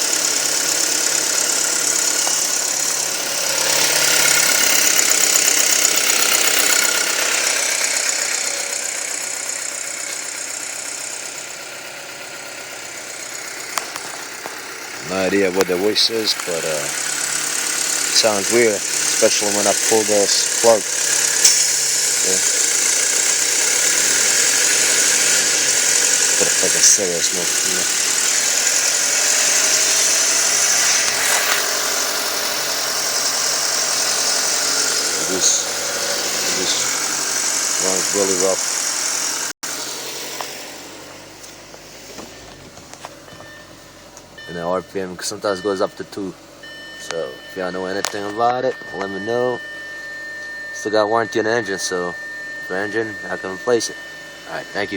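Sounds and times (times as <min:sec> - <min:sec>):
car engine idling: 0:00.0 - 0:54.9
engine ticking: 0:00.0 - 0:54.9.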